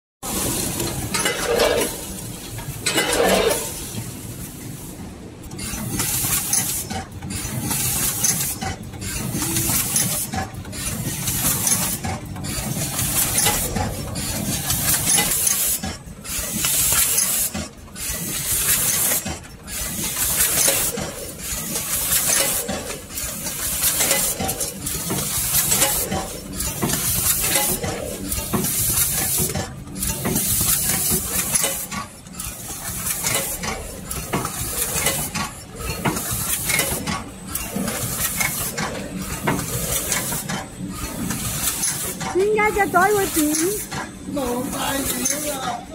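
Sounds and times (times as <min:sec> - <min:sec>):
bag-filling machine rattling hiss: 0:03.3 - 0:45.6.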